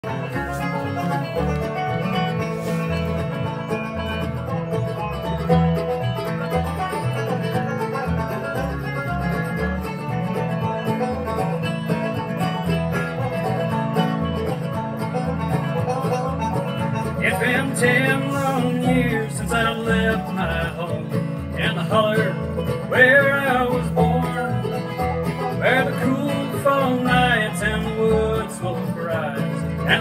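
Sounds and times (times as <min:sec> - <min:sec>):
acoustic guitar: 0:00.0 - 0:30.0
banjo: 0:00.0 - 0:30.0
plucked upright bass: 0:00.0 - 0:30.0.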